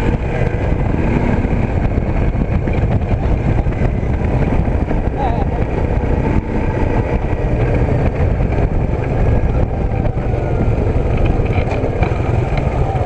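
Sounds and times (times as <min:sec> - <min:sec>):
atv engine rumbling: 0:00.0 - 0:13.0.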